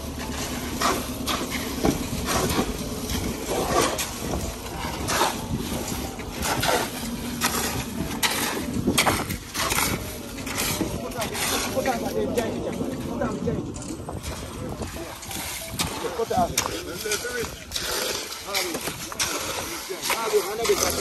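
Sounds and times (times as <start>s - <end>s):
shovels scraping wet concrete: 0.0s - 21.0s.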